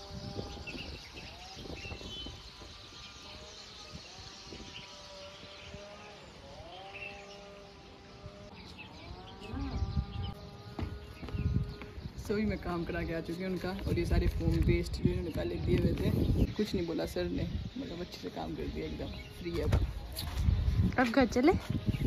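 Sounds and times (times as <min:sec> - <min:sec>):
low rumbling: 0:00.0 - 0:22.0.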